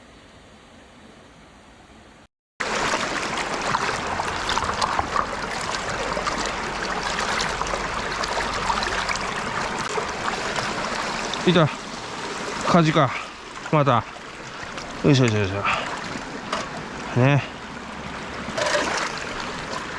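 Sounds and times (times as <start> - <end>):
stream water rushing: 2.6 - 19.9.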